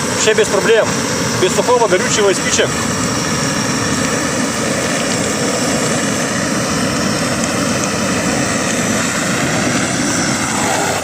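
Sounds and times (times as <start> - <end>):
gas torch burning: 0.0 - 11.0.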